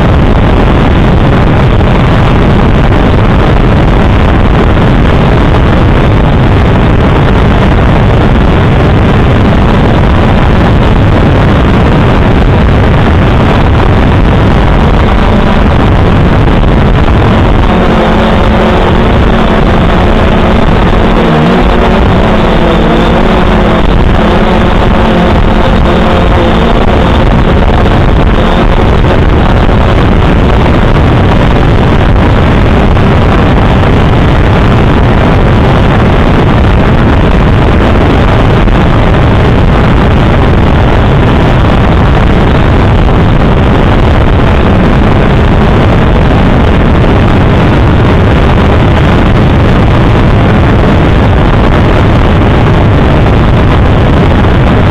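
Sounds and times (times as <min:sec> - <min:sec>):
drone motors and propellers: 0:00.0 - 0:54.9.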